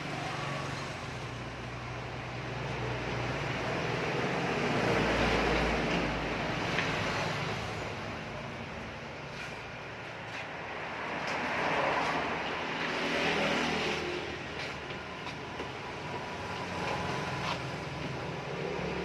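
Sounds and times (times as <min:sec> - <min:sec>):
road traffic rushing: 0:00.0 - 0:19.0.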